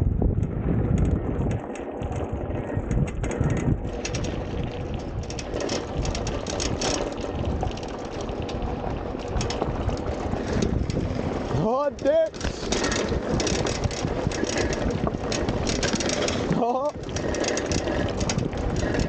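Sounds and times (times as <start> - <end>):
wind buffeting microphone: 0.0 - 19.0
tyres rolling on dirt: 1.0 - 19.0
scooter knocks and rattles: 3.0 - 19.0.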